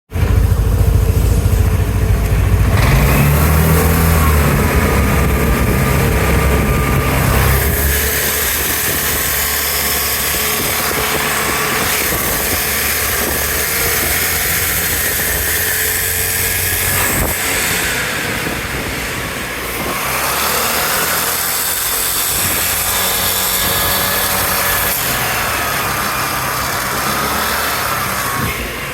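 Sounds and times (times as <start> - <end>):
grinding noise: 0.1 - 28.9
scooter engine revving: 0.1 - 28.9.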